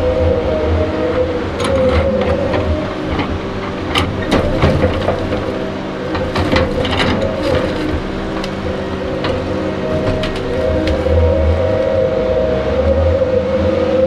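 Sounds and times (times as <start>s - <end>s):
log loader engine running: 0.0s - 14.0s.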